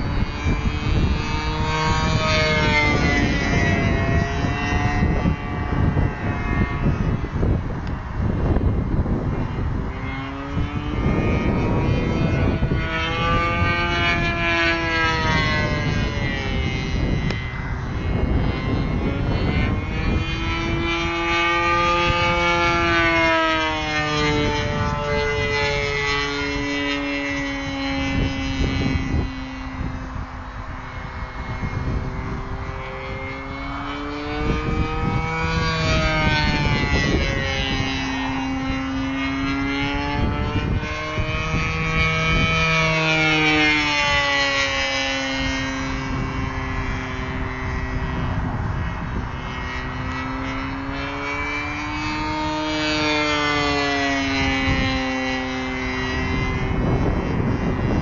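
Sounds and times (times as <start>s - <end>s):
model plane engine in flight: 0.0s - 58.0s.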